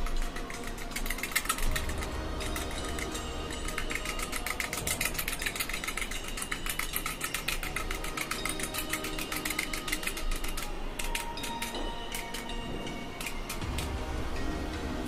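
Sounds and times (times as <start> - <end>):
foil being pierced rapid ticks: 0.0 - 14.0.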